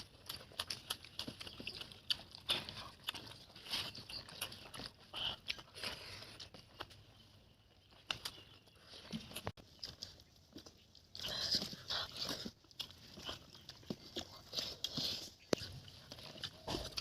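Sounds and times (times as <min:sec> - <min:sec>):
person chewing and crunching: 0:00.0 - 0:17.0.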